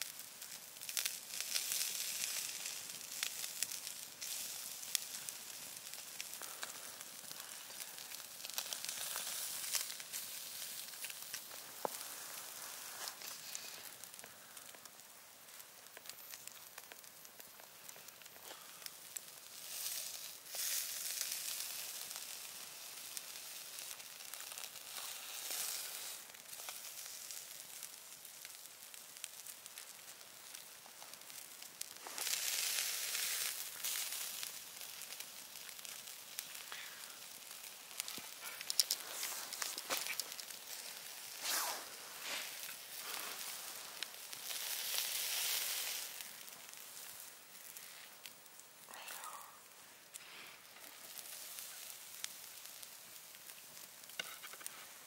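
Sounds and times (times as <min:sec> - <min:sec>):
fish sizzling on a grill: 0:00.0 - 0:55.0
small crackles and pops: 0:00.0 - 0:55.0.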